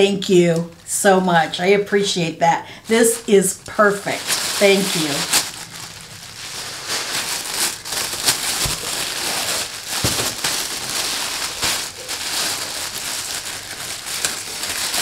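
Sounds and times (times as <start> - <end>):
tissue paper rustling: 2.9 - 15.0.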